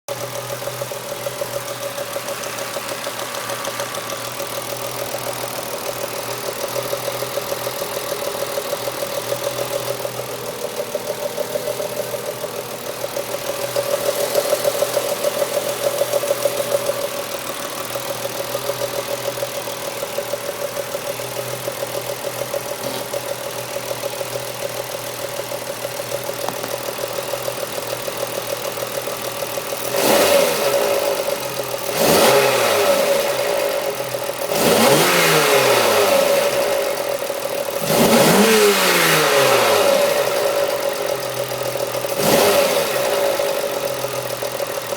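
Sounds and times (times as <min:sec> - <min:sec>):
car engine idling: 0:00.1 - 0:44.9.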